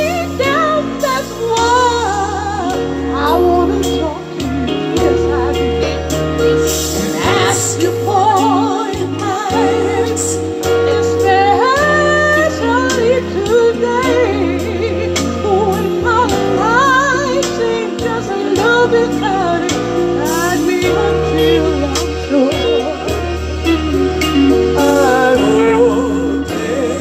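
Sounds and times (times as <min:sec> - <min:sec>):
woman singing through speaker: 0:00.0 - 0:06.0, 0:07.0 - 0:23.2
backing track chords and bass: 0:00.0 - 0:27.0.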